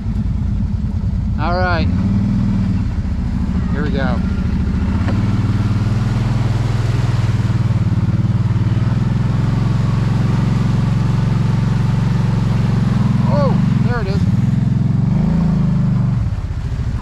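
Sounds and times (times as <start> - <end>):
vehicle engine at low revs: 0.0 - 17.0.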